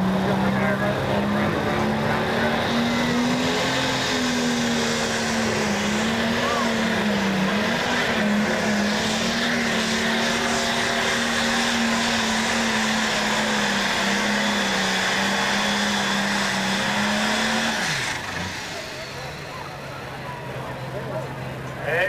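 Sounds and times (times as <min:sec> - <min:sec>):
tractor diesel engine high-revving: 0:00.0 - 0:22.0.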